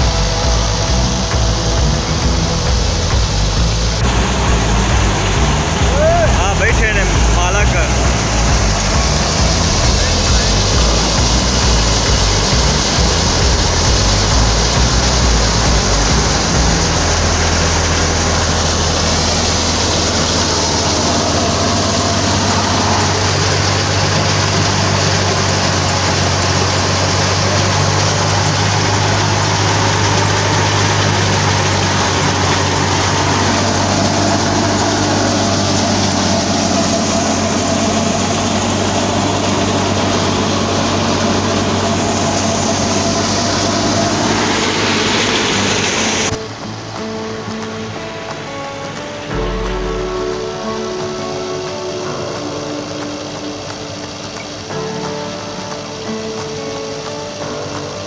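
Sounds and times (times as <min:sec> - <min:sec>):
tractor engine humming: 0:00.0 - 0:58.0.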